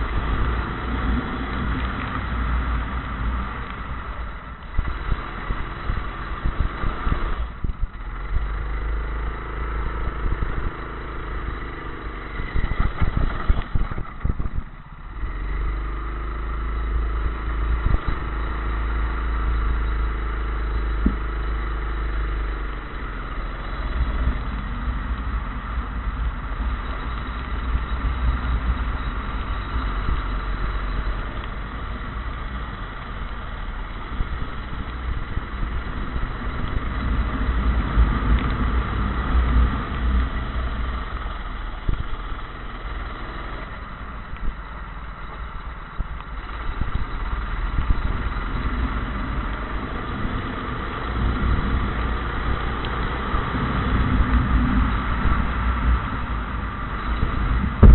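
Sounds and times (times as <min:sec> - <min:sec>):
go-kart engine running: 0:00.0 - 0:57.9.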